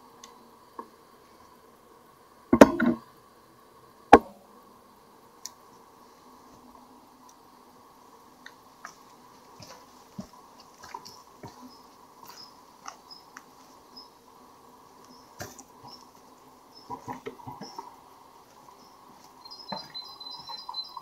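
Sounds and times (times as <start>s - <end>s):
faint scattered ticks: 0.0s - 21.0s.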